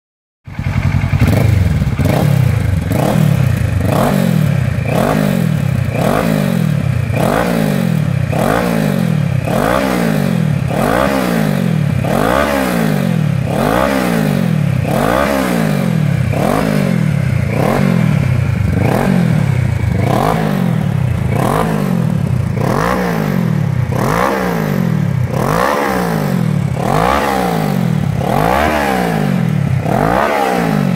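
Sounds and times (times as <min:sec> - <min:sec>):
motorcycle engine revving: 0:00.5 - 0:30.9.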